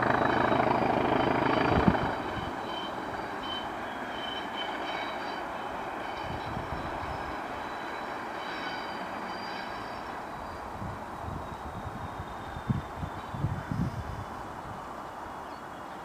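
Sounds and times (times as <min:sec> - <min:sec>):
diesel locomotive engine noise: 0:00.0 - 0:16.0.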